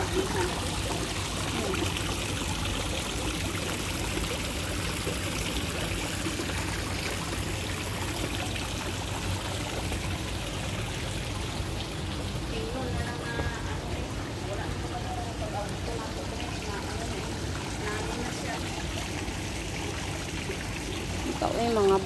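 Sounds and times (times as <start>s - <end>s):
water trickling in a pond: 0.0s - 22.0s.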